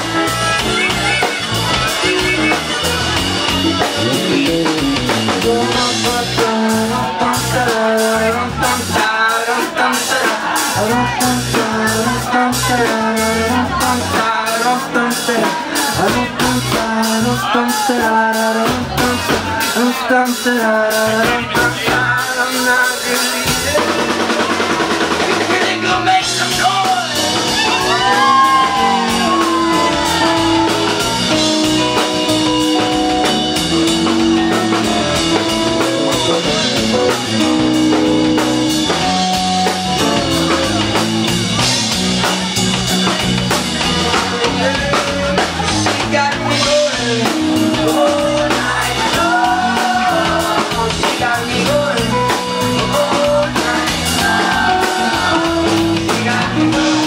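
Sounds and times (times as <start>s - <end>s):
live band playing: 0.0s - 57.0s
person singing: 0.6s - 57.0s.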